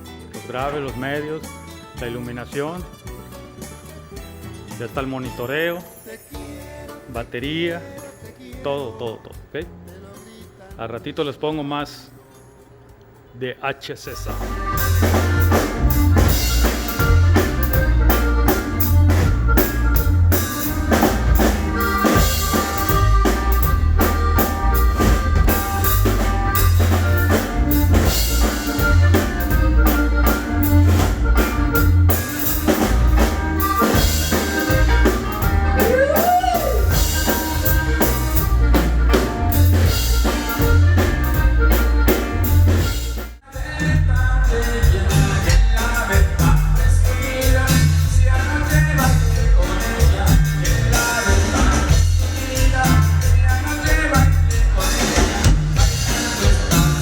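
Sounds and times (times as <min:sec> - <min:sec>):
band music with drums and bass: 0:00.0 - 0:10.9, 0:14.1 - 0:57.0.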